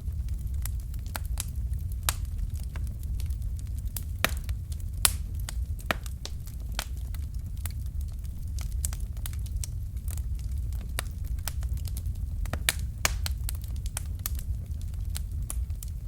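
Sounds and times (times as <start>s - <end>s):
fireplace fire crackling: 0.0s - 16.0s
low steady rumble: 0.0s - 16.0s.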